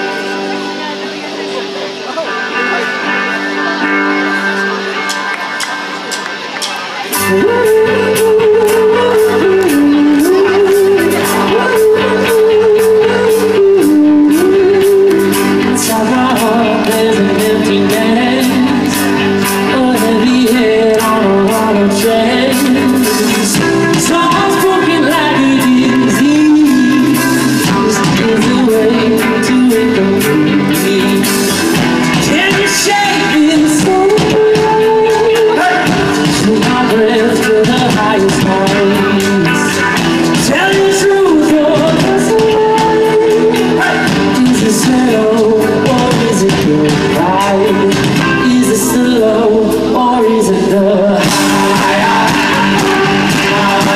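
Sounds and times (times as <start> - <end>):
live rock band: 0.0 - 53.9
man singing: 7.1 - 53.9.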